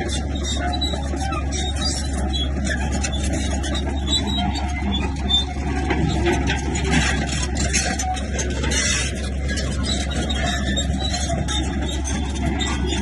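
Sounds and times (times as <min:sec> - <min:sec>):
bulldozer diesel engine: 0:00.0 - 0:13.0
scraping and clanking: 0:00.0 - 0:13.0.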